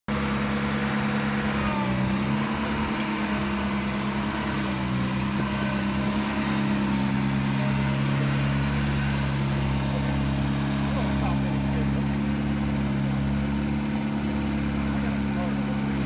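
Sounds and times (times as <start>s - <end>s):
utility vehicle engine running: 0.1s - 16.0s.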